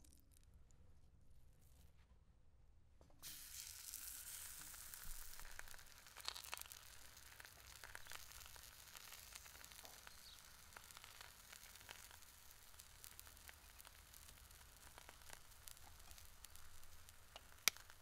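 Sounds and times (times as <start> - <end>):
small crackles and pops: 0.0 - 2.0, 3.0 - 18.0
pancake sizzling in pan: 3.2 - 18.0.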